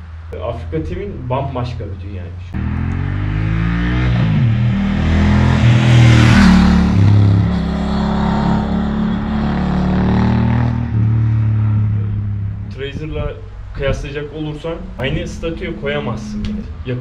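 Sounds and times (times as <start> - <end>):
motorcycle engine accelerating: 2.6 - 16.8.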